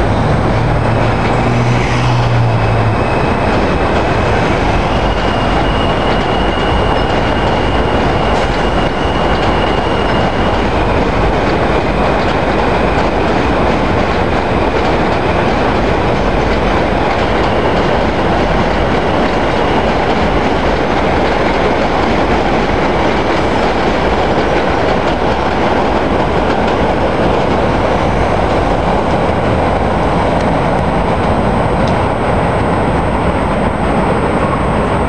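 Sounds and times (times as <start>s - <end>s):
subway train wheels on rail: 0.0s - 35.0s.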